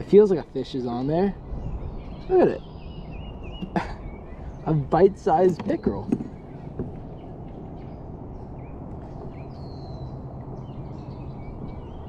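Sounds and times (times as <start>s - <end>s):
low rumble and hum: 0.0s - 12.0s
faint bird chirps: 0.6s - 12.0s.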